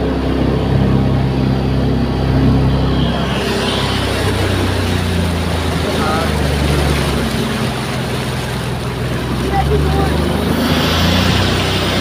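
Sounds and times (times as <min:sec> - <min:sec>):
motorboat engine running: 0:00.0 - 0:12.0
water rushing and splashing: 0:00.0 - 0:12.0.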